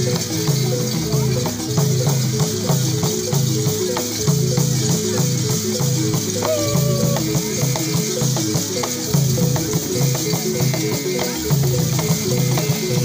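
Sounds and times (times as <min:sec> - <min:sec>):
rattles and shakers: 0:00.0 - 0:13.0
wooden xylophone pattern: 0:00.0 - 0:13.0.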